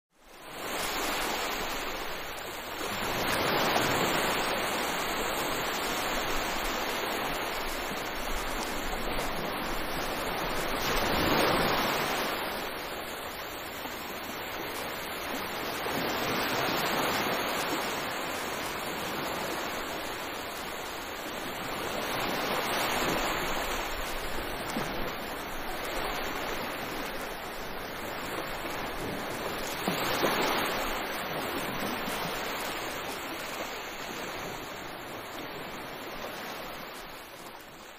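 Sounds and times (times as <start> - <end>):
waves breaking on beach: 0.2 - 37.9.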